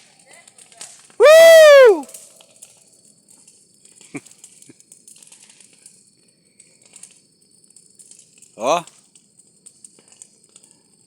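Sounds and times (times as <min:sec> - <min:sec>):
bonfire crackling faintly: 0:00.0 - 0:11.0.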